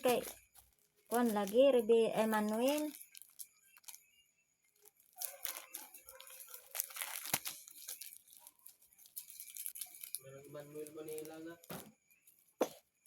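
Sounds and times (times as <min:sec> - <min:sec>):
packaging crinkling: 0:00.0 - 0:11.9.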